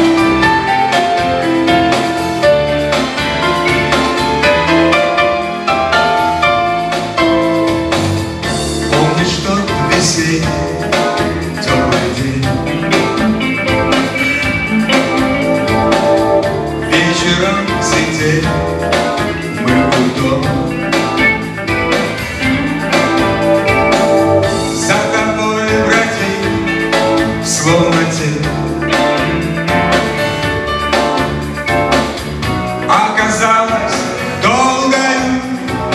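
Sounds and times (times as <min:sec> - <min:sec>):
bass: 0:00.0 - 0:35.9
electric guitar: 0:00.0 - 0:35.9
keyboards: 0:00.0 - 0:35.9
steady drum beat: 0:00.0 - 0:35.9.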